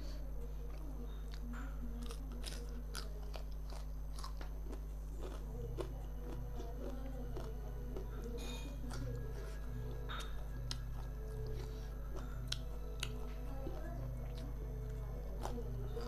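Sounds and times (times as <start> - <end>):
steady low hum: 0.0 - 16.0
crisp crunching chewing: 0.7 - 16.0.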